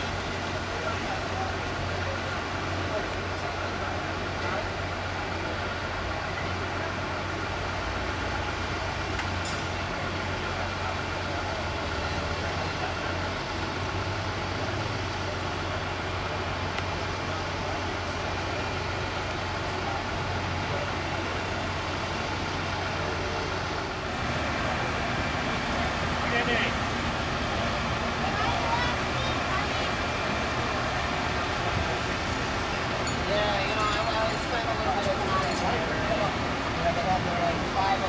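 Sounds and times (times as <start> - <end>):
heavy diesel engine droning: 0.0 - 38.0.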